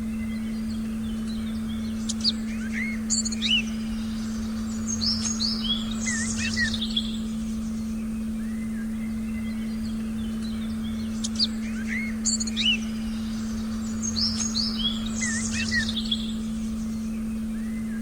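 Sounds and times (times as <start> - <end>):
birds chirping: 0.0 - 18.0
steady pure tone: 0.0 - 18.0.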